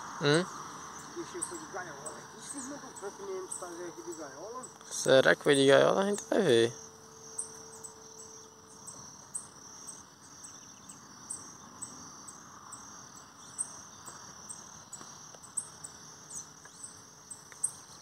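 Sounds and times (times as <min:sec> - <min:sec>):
insect trilling: 0:00.0 - 0:18.0.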